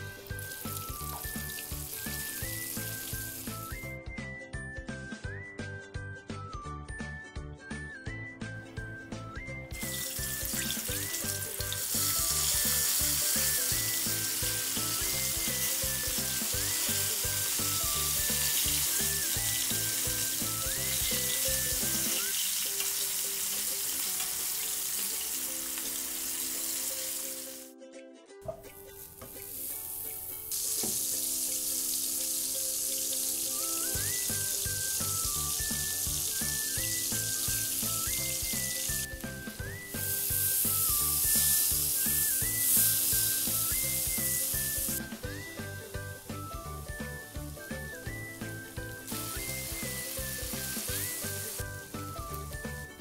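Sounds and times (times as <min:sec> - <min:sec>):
butter and garlic sizzling in pan: 0:00.0 - 0:03.9, 0:09.7 - 0:27.7, 0:28.7 - 0:52.9
chicken deep-frying in hot oil: 0:00.0 - 0:04.0, 0:09.3 - 0:27.7, 0:28.7 - 0:53.0
background music: 0:00.0 - 0:53.0.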